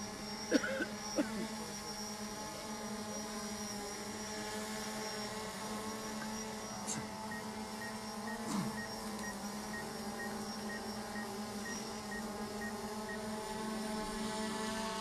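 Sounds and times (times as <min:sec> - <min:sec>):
drone hovering hum: 0:00.0 - 0:15.0.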